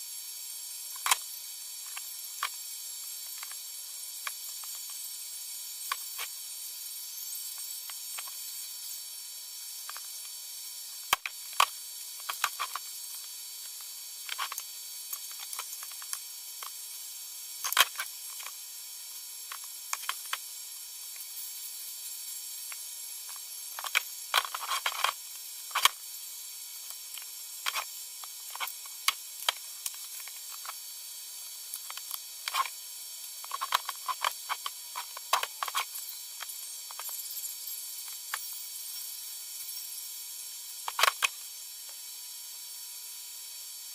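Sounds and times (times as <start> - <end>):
steady hiss: 0.0 - 43.9.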